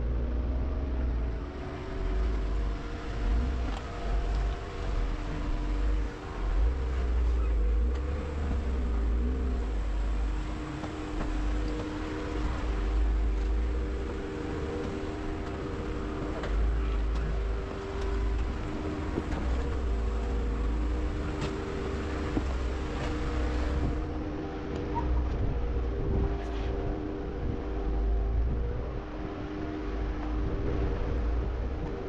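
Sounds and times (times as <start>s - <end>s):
vehicle engine droning: 0.0s - 32.0s.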